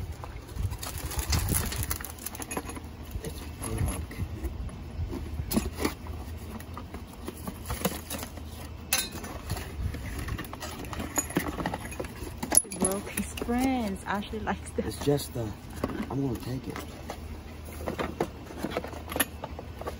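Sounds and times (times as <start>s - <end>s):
plastic bags and cardboard rustling: 0.0s - 19.9s
steady low hum: 0.0s - 19.9s.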